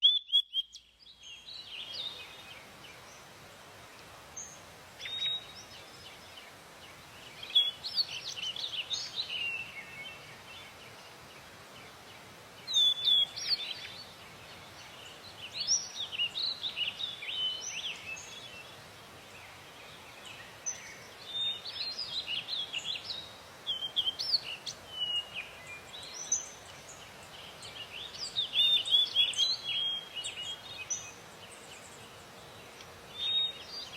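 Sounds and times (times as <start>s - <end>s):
songbird chirping: 0.0s - 33.9s
brook babbling: 1.0s - 33.9s.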